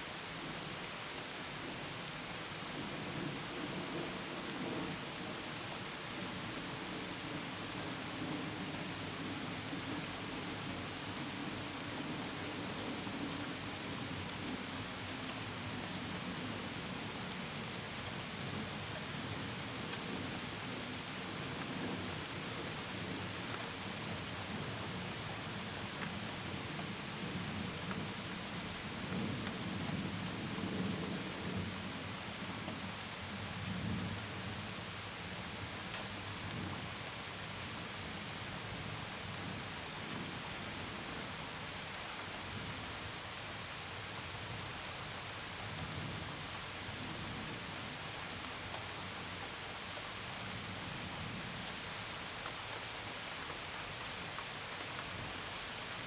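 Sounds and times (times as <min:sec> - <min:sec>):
rain on window and gutters: 0:00.0 - 0:56.0
crickets chirping faintly: 0:00.1 - 0:56.0.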